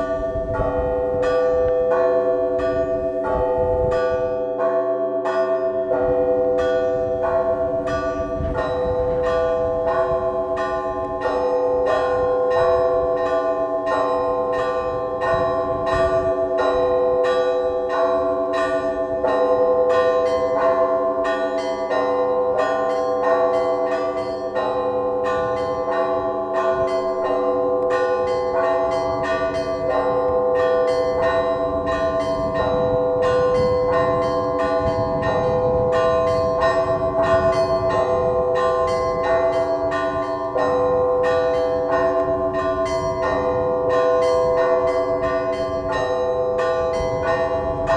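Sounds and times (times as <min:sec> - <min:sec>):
large bells ringing: 0:00.0 - 0:47.9.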